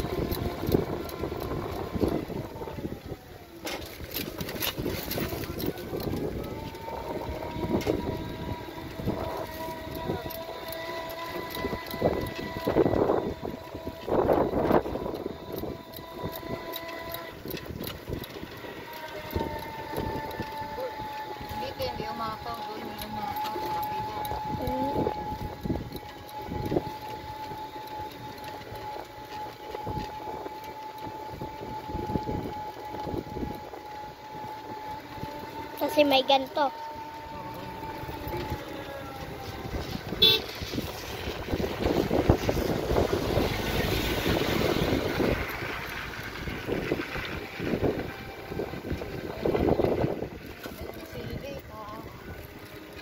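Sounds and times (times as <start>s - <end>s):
motor vehicle high whine: 0.0s - 53.0s
wind buffeting microphone: 0.0s - 53.0s.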